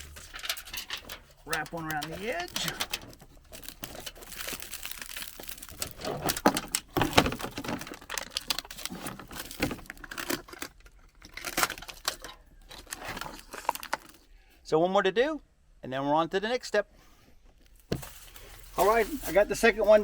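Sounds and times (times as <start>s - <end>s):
foil tape crinkling: 0.0s - 14.3s, 17.8s - 20.0s.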